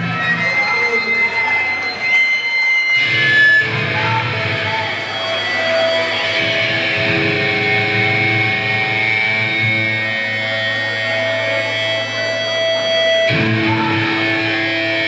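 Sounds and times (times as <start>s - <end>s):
distorted electric guitar feedback: 0.0s - 15.0s.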